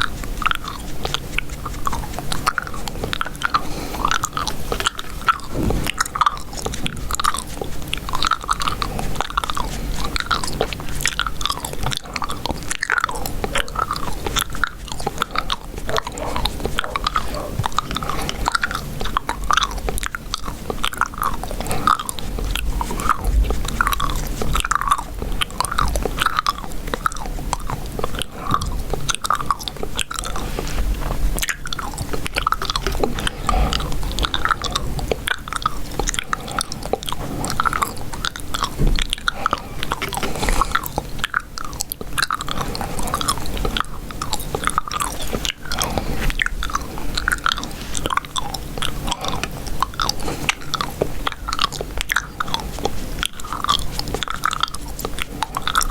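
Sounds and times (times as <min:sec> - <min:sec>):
gum chewing and mouth smacks: 0:00.0 - 0:55.9.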